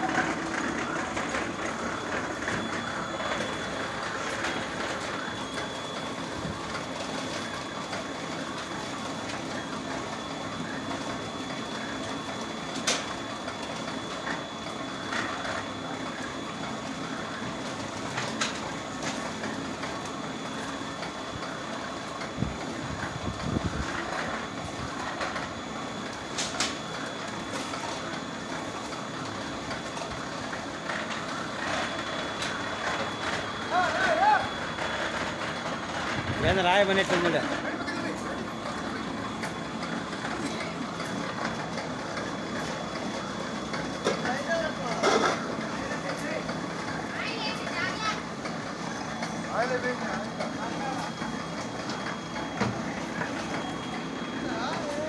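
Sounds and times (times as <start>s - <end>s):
brick making machine rattling: 0.0s - 55.0s.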